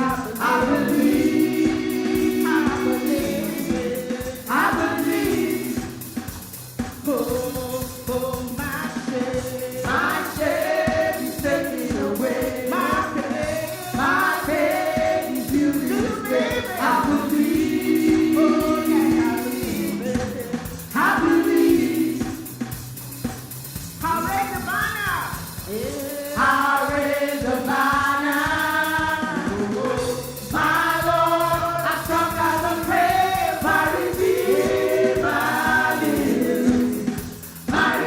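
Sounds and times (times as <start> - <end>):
choir singing gospel: 0.0 - 38.0
instrumental accompaniment with bass: 0.0 - 38.0.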